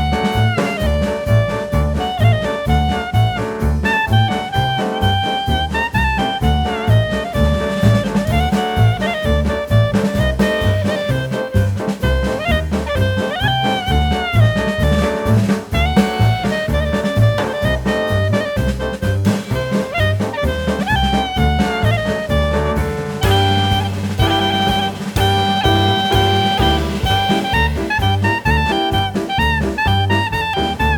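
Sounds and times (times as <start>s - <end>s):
jazzy background music: 0.0s - 30.9s.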